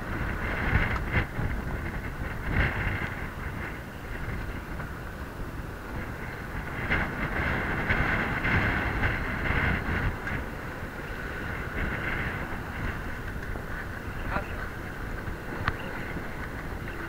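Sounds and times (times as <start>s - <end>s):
steady hum: 0.0s - 17.0s
wind buffeting microphone: 0.0s - 17.0s.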